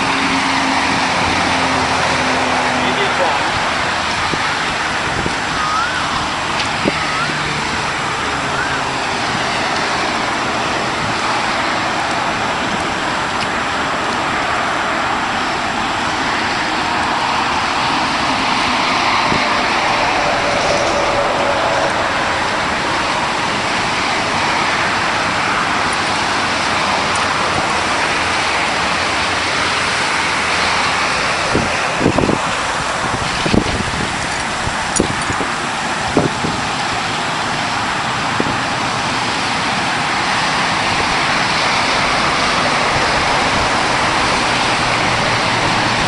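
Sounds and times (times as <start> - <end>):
highway traffic: 0.0 - 46.0.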